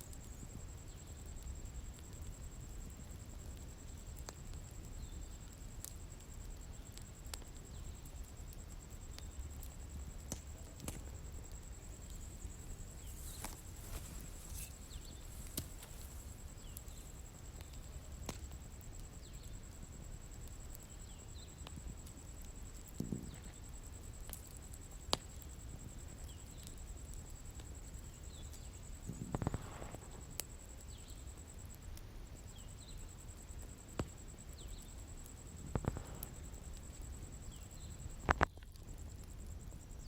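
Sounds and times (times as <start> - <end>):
bonfire crackling: 0.0 - 40.0.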